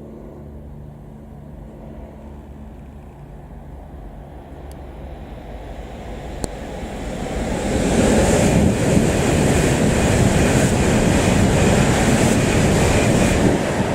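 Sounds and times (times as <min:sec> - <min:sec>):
high-speed train rushing: 0:00.0 - 0:13.9.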